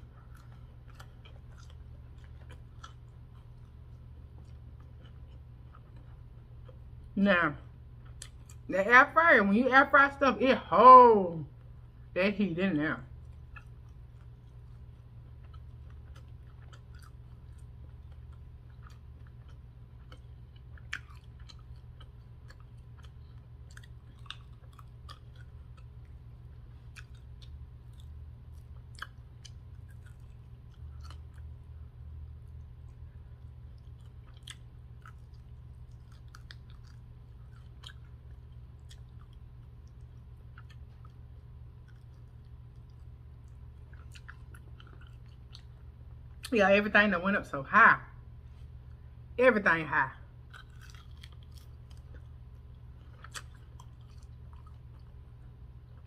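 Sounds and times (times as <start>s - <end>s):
person chewing food: 0.0s - 7.2s, 7.8s - 8.7s, 13.1s - 46.5s, 50.3s - 56.0s
steady low hum: 0.0s - 56.0s.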